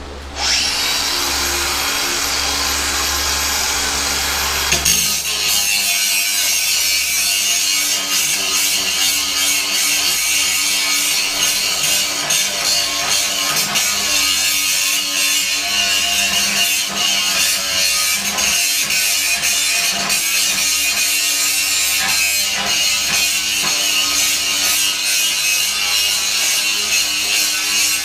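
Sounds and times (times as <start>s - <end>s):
angle grinder grinding metal: 0.0s - 28.0s.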